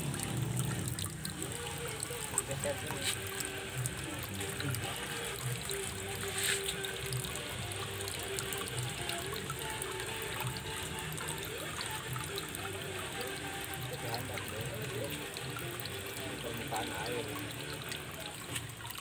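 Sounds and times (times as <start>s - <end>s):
background music: 0.0s - 19.0s
water trickling down waterfall: 0.0s - 19.0s.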